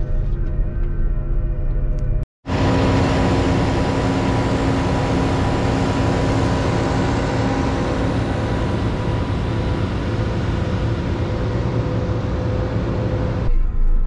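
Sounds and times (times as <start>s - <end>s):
combine harvester drone: 1.5s - 14.0s.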